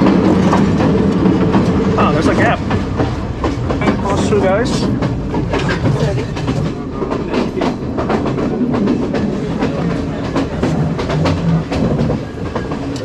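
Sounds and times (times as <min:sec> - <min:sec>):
train wheels clattering: 0:00.0 - 0:13.0.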